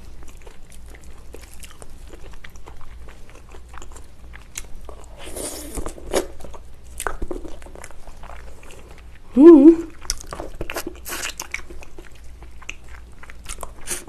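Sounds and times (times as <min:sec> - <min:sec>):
wet chewing and smacking: 0:00.0 - 0:09.3, 0:09.9 - 0:14.0.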